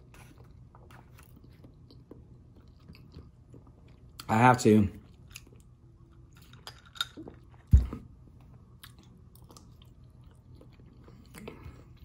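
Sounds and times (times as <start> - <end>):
chewing with wet clicks: 0.3 - 4.3, 5.0 - 7.7, 8.3 - 12.0.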